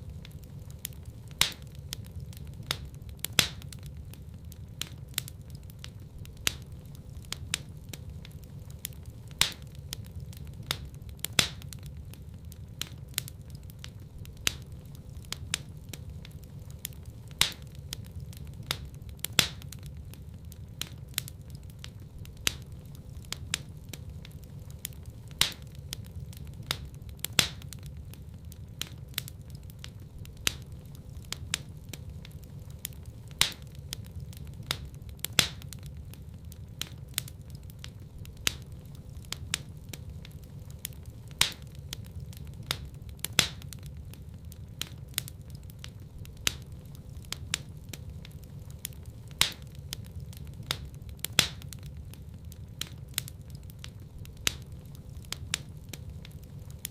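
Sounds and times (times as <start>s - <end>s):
fire crackling in fireplace: 0.0s - 56.9s.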